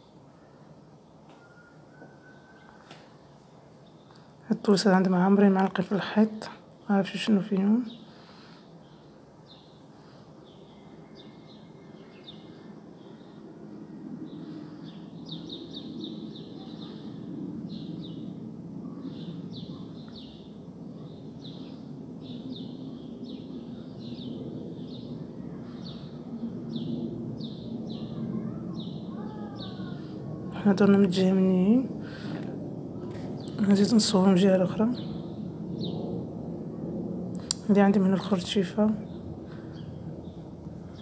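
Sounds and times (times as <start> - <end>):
small birds chirping: 0.0 - 32.4, 33.0 - 36.2, 37.4 - 41.0
low steady background noise: 0.0 - 41.0.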